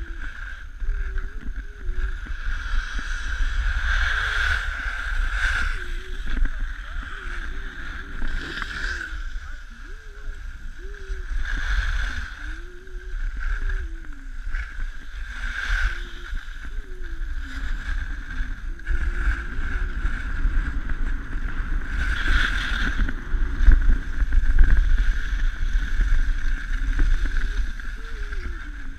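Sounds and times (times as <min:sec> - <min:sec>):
wind buffeting microphone: 0:00.0 - 0:28.9
skis hissing over snow: 0:02.0 - 0:12.5, 0:13.1 - 0:28.9.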